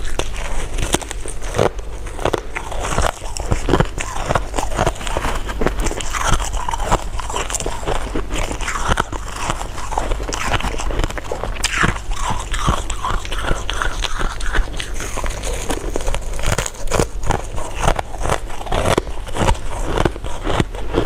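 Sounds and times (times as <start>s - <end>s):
chewing candy crunches: 0.0s - 21.0s.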